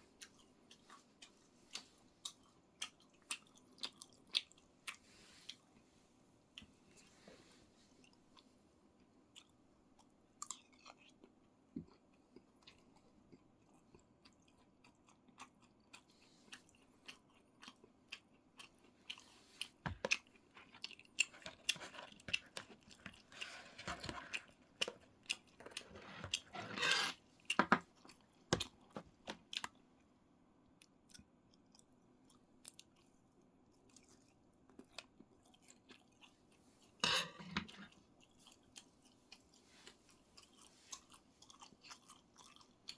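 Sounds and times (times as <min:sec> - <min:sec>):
chewing and mouth sounds: 0:00.1 - 0:05.7, 0:08.0 - 0:26.5, 0:30.8 - 0:37.1, 0:37.7 - 0:42.9.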